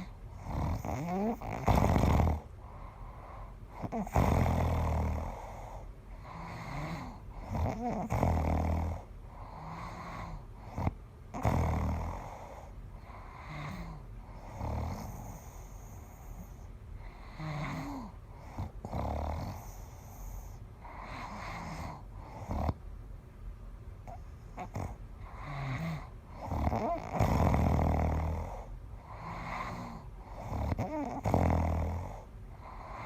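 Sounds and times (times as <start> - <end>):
low rattling snore: 0.0 - 2.5, 3.8 - 22.8, 24.1 - 33.0
breathing between snores: 0.0 - 22.8, 24.0 - 33.0.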